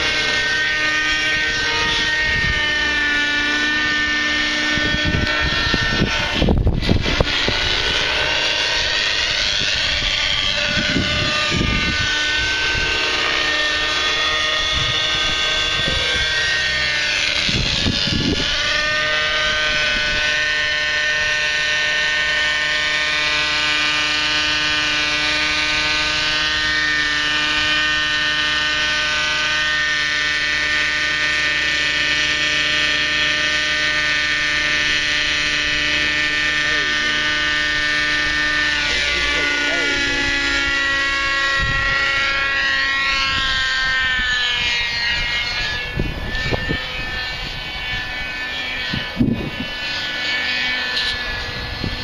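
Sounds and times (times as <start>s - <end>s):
model helicopter engine whine: 0.0s - 52.0s
rotor noise: 0.0s - 52.0s.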